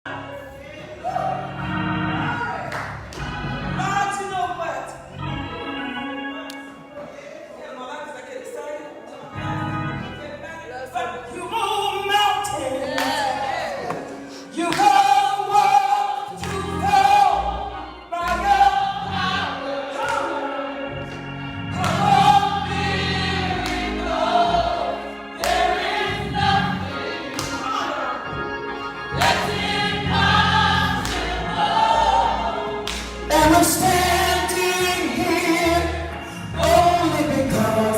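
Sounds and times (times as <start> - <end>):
gospel choir singing: 0.1 - 7.2, 9.2 - 37.9.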